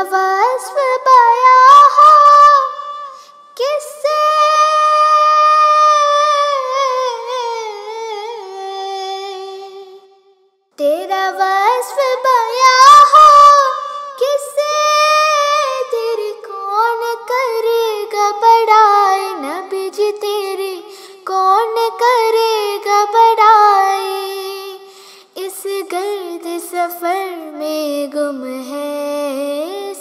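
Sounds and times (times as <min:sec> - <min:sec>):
girl singing solo: 0:00.0 - 0:10.0, 0:10.8 - 0:30.0.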